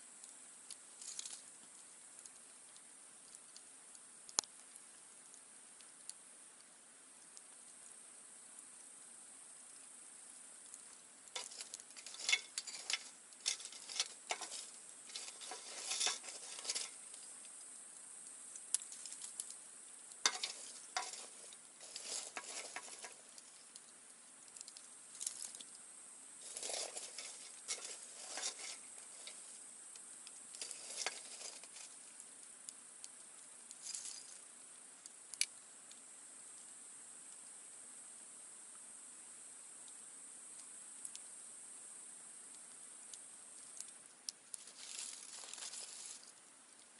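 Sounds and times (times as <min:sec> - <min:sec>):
campfire crackling: 0:00.0 - 0:46.9
high-pitched background hiss: 0:00.0 - 0:46.9.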